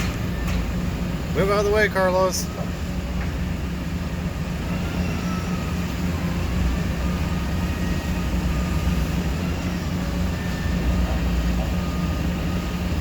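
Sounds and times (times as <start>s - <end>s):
forklift engine droning: 0.0s - 13.0s.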